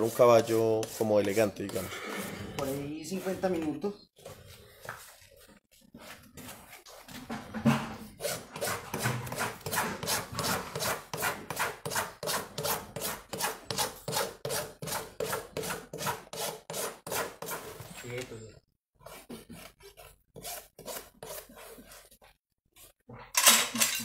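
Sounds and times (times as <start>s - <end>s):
hoof rasp filing: 0.0s - 18.2s, 19.0s - 22.4s.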